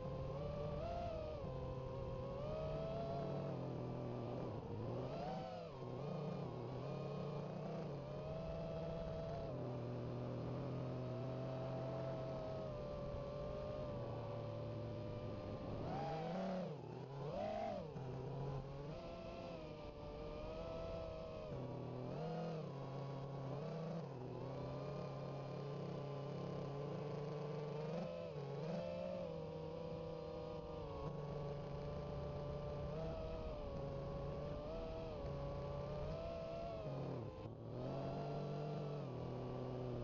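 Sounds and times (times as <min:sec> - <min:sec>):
quadcopter motors whining: 0:00.0 - 0:40.0.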